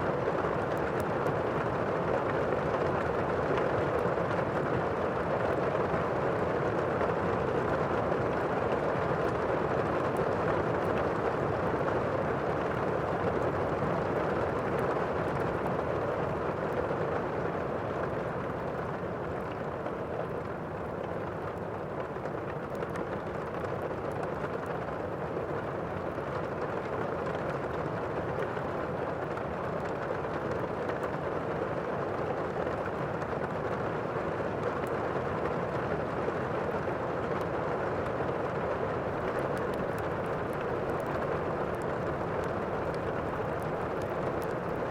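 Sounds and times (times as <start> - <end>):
wood fire crackling: 0.2 - 44.9.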